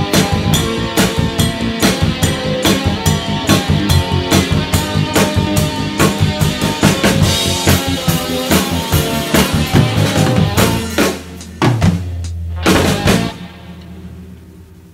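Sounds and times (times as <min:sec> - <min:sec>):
drum kit rock groove: 0:00.0 - 0:14.4
rock backing track: 0:00.0 - 0:14.9.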